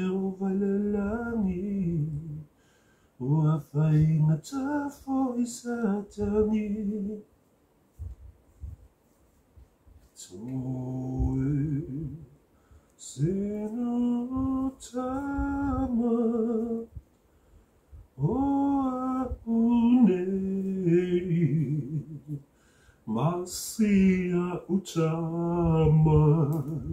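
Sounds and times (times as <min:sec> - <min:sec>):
man singing unaccompanied: 0:00.0 - 0:02.6, 0:03.2 - 0:07.3, 0:10.2 - 0:12.4, 0:13.0 - 0:17.0, 0:18.2 - 0:26.9.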